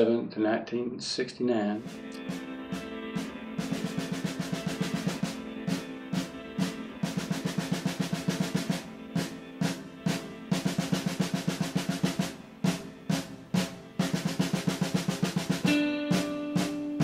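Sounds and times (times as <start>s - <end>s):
held low chord: 1.8s - 17.0s
snare drum rolls: 1.8s - 17.0s.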